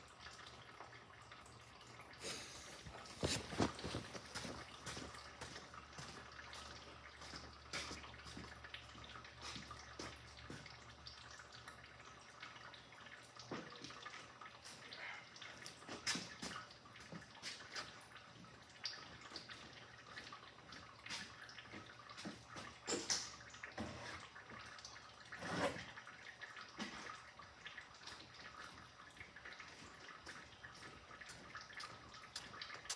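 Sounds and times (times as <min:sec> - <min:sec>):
liquid dripping into container: 0:00.0 - 0:32.9.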